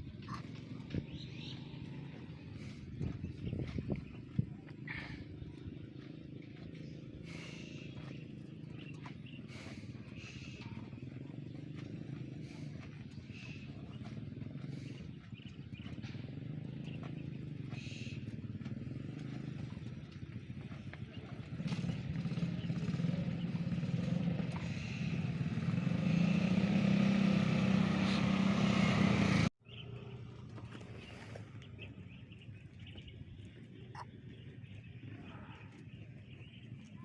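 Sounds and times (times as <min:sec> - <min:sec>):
motor engine running: 0:00.0 - 0:37.0.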